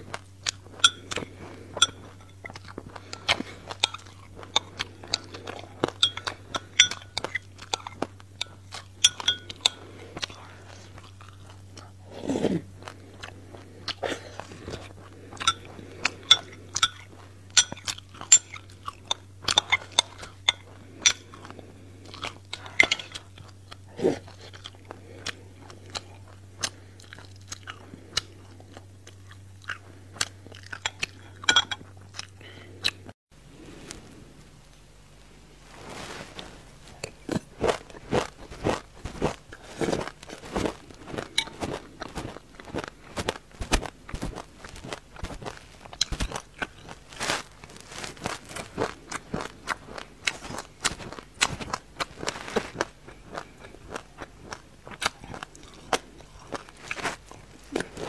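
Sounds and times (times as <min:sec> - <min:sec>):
crisp crunching of seeds: 0:00.0 - 0:33.0, 0:33.6 - 0:58.0.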